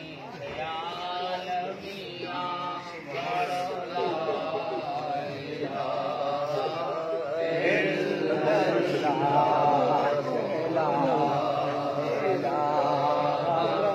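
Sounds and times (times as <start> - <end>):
men chanting: 0.0 - 13.9.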